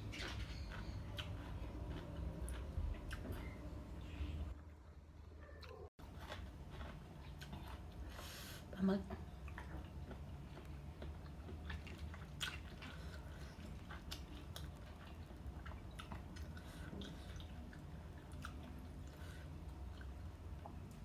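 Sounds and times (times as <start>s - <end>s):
person chewing: 0.0s - 3.7s, 5.6s - 8.5s, 9.4s - 21.0s.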